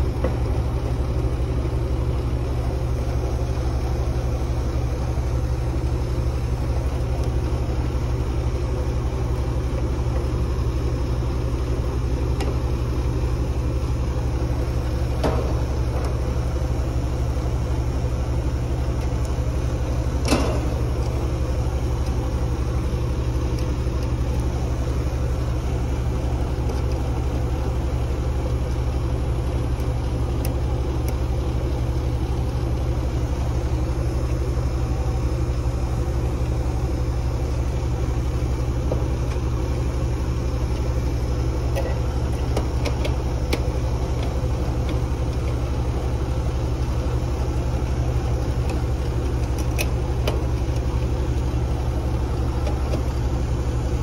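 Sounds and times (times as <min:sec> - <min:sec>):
vacuum pump humming: 0:00.0 - 0:54.0.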